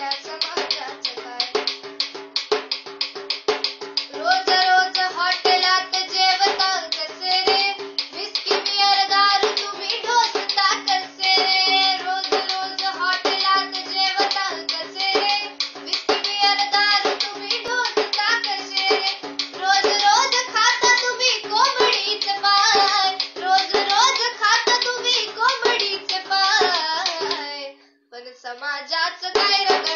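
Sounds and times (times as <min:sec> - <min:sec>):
girl singing: 0:00.0 - 0:02.0, 0:04.1 - 0:29.9
hand drum beats: 0:00.0 - 0:27.6, 0:29.2 - 0:29.9.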